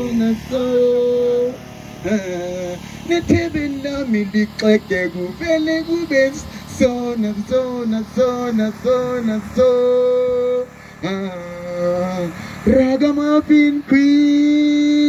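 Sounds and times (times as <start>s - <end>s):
person singing long notes: 0.0s - 15.0s.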